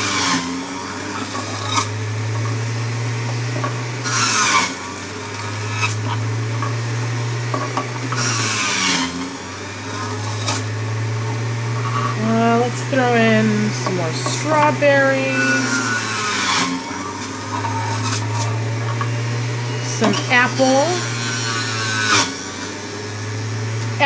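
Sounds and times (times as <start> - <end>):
juicer grinding fruit: 0.0 - 24.0
juicer motor humming: 0.0 - 24.0.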